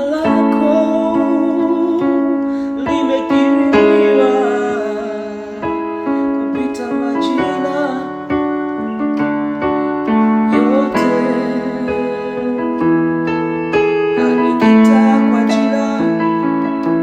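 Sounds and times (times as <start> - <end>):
electric piano chords and melody: 0.0 - 17.0.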